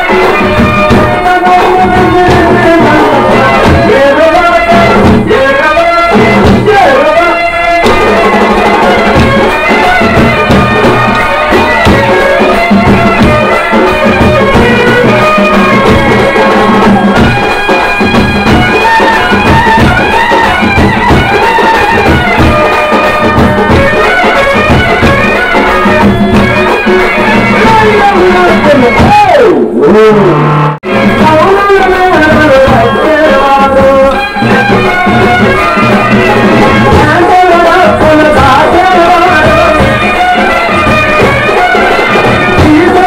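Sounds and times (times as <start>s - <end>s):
busy drum beat: 0.0s - 30.2s, 30.8s - 43.0s
folk melody line: 0.0s - 43.0s.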